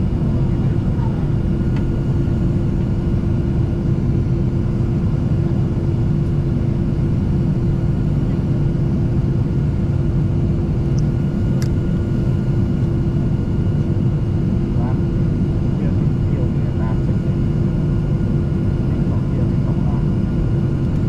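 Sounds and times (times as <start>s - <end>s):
airliner engines rumbling in cabin: 0.0s - 21.0s.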